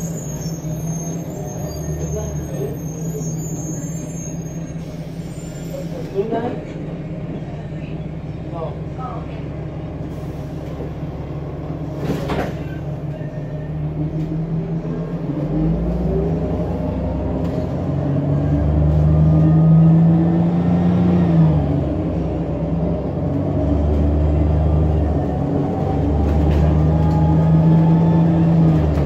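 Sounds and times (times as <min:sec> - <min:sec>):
bus engine from inside cabin: 0:00.0 - 0:29.0.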